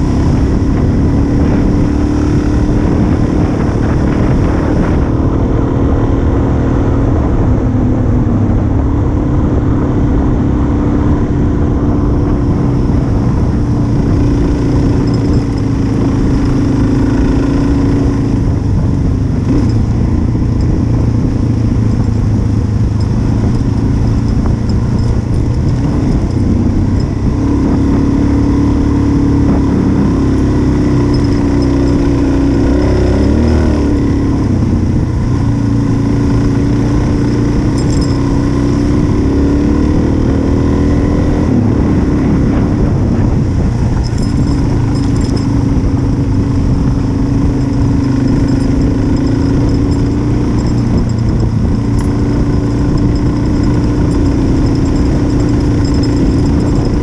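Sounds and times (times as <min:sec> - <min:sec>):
motorcycle engine cruising: 0:00.0 - 0:57.0
wind rumble on microphone: 0:00.0 - 0:57.0.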